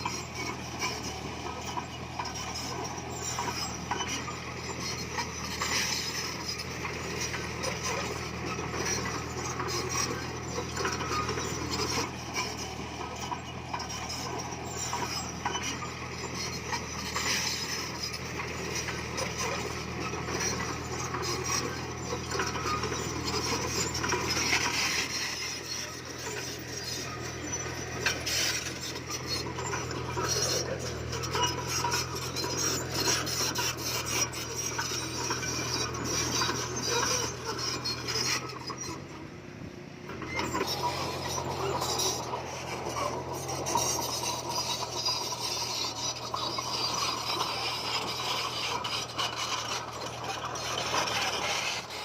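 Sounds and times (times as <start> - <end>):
bulldozer diesel engine running: 0.0 - 52.0
tracks clanking and scraping stone: 0.0 - 52.0.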